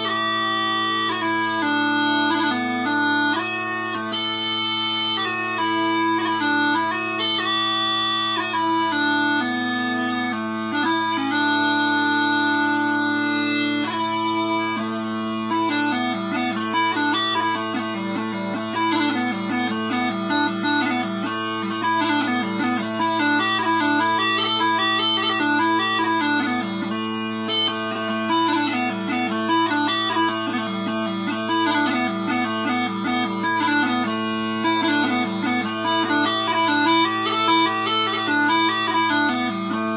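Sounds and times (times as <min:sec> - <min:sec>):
bagpipe chanter melody: 0:00.0 - 0:39.9
steady bagpipe drones: 0:00.0 - 0:39.9.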